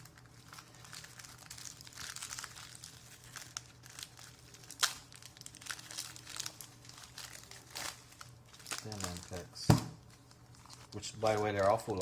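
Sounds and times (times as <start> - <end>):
wrappers crinkling and rustling: 0.0 - 12.0.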